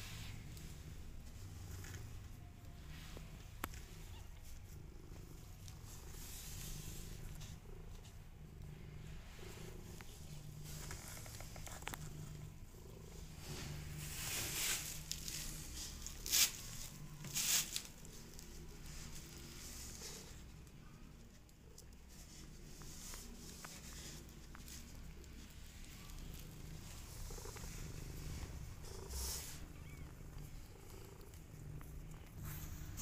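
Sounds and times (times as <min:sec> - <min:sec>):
cat purring: 0:00.0 - 0:33.0.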